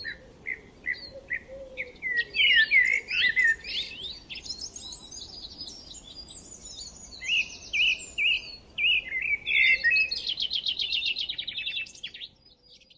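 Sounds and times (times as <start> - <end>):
songbirds singing and chirping: 0.0 - 12.9.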